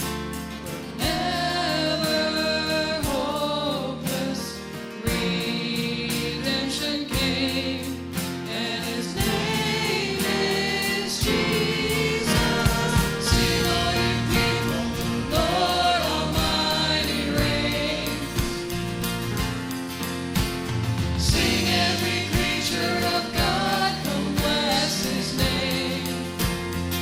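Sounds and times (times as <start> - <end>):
choir and band gospel song: 0.0 - 27.0.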